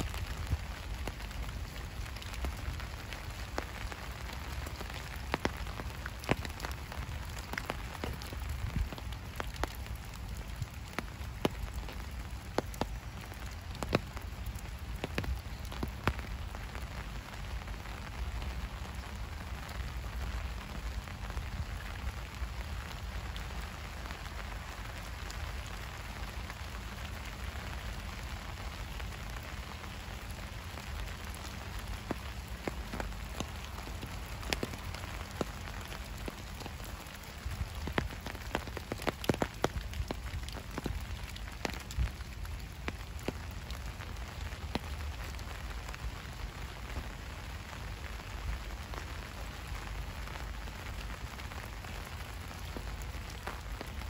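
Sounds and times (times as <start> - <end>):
raindrops ticking close by: 0.0 - 54.0
steady rain falling: 0.0 - 54.0.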